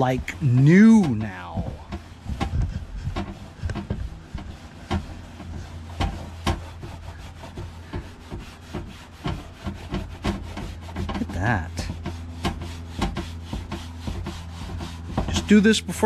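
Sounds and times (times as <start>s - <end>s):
sharp knocks: 0.0s - 15.5s
rag wiping plastic: 0.0s - 16.0s.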